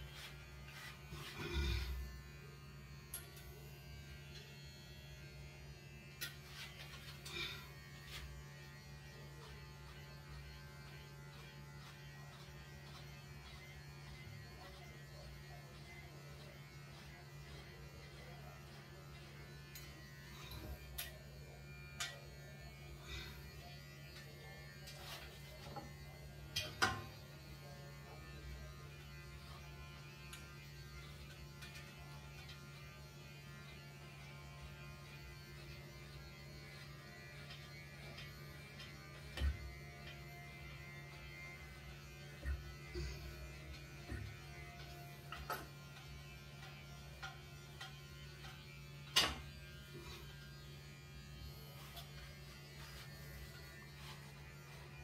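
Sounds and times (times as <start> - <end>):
electric hair clipper humming: 0.0 - 55.0.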